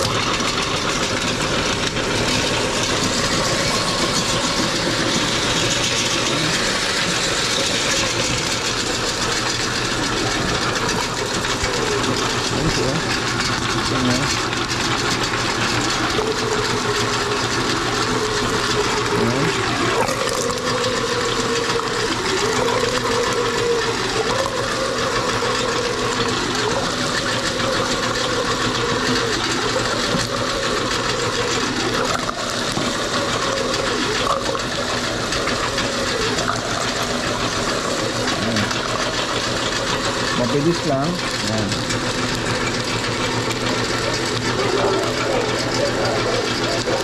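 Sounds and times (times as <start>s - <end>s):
electric meat grinder running: 0.0s - 47.0s.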